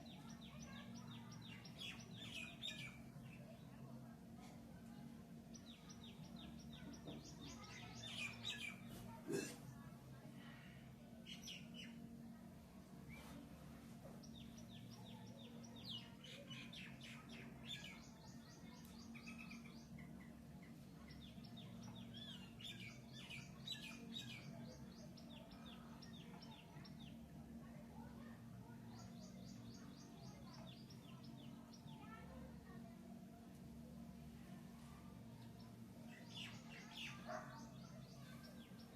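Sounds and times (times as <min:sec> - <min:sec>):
faint bird chirping: 0:00.0 - 0:38.9
low steady hum: 0:00.0 - 0:38.9.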